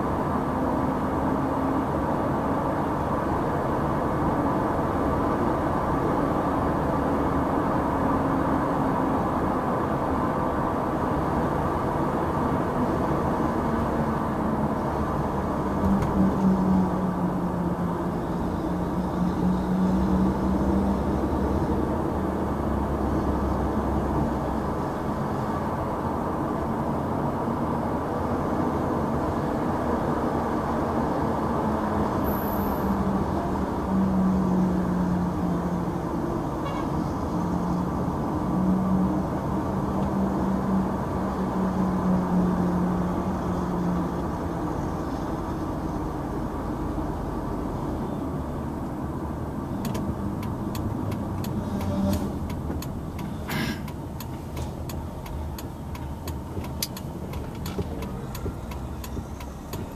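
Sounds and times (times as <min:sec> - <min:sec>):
car engine while driving: 0:00.0 - 0:59.9
road noise: 0:00.0 - 0:59.9.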